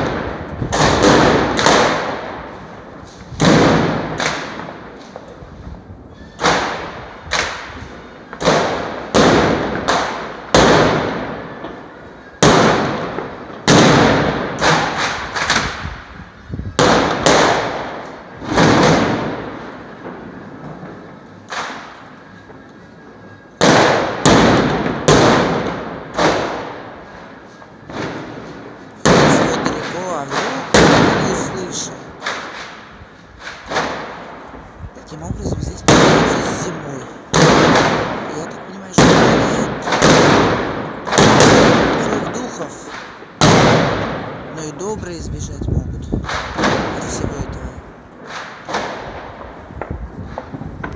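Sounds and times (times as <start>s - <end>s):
firecrackers exploding: 0.0s - 45.0s, 46.1s - 50.9s.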